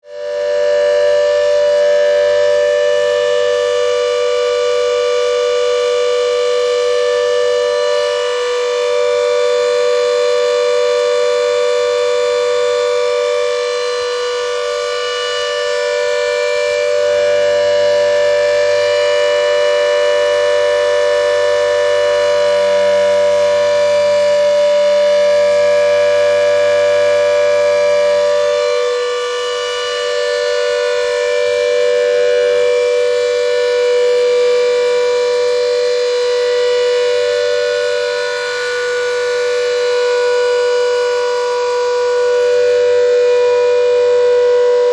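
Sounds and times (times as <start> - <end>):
civil defence siren: 0.0 - 44.9.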